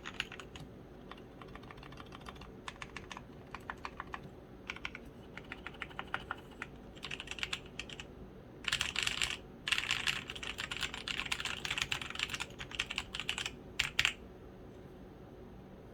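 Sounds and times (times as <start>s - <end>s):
typing on mechanical keyboard: 0.0s - 14.2s.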